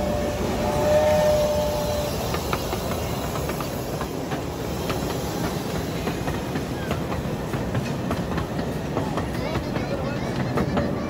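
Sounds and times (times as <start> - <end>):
miniature train rumbling: 0.0 - 11.0.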